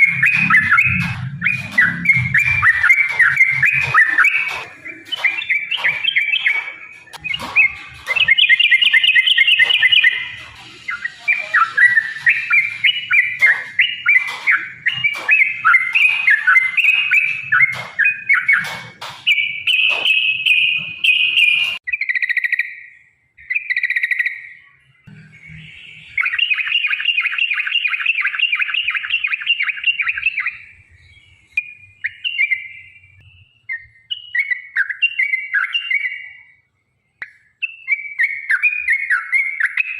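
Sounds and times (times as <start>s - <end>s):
bulbul song chattering: 0.0s - 36.6s.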